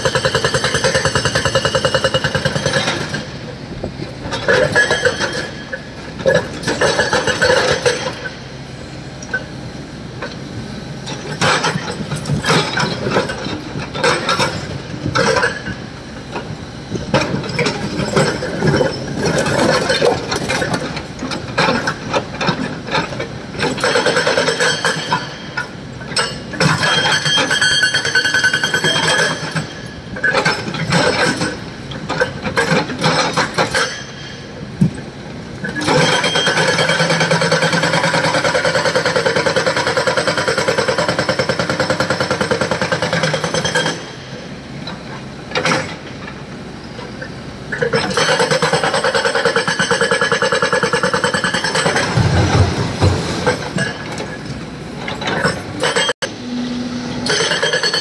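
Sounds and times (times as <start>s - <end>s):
hydraulic rock breaker hammering: 0.0s - 8.4s, 11.0s - 46.4s, 47.7s - 56.2s, 57.2s - 58.0s.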